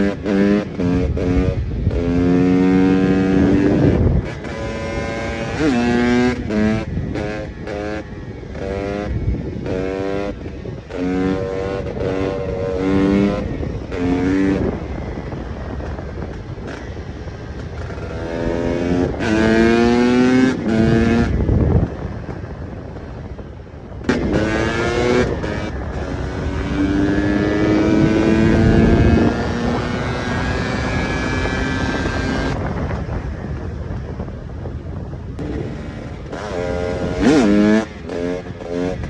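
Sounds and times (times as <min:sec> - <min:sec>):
two-stroke motorcycle engine revving: 0:00.0 - 0:34.2, 0:35.4 - 0:39.0.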